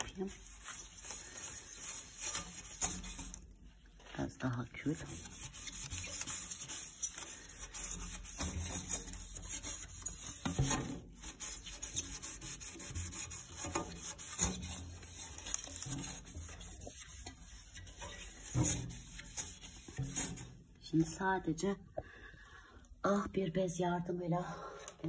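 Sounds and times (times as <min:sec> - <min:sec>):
gritty scrubbing on glass: 0:00.0 - 0:20.6.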